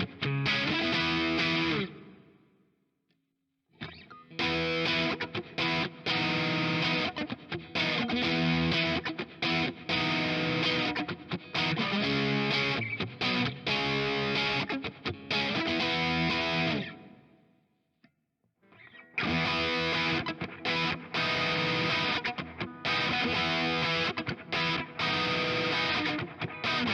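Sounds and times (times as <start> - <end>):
distorted electric guitar riff: 0.0 - 2.2, 3.8 - 17.1, 18.8 - 26.9.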